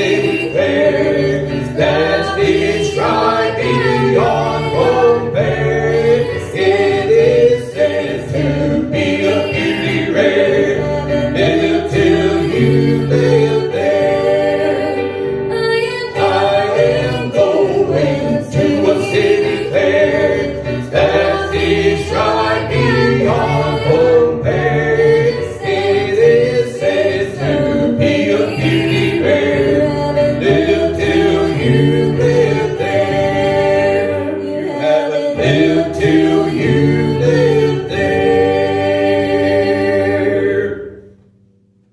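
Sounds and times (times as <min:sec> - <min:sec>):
a cappella group singing: 0:00.0 - 0:41.2.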